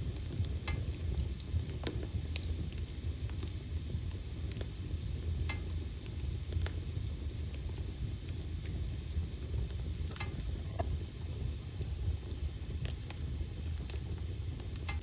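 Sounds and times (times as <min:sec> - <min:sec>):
low rumble of flames: 0:00.0 - 0:15.0
logs crackling and popping: 0:00.1 - 0:04.8, 0:05.5 - 0:15.0.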